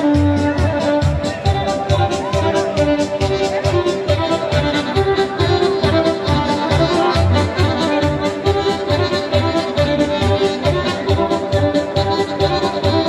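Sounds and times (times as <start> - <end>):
fast folk dance music: 0.0 - 13.0.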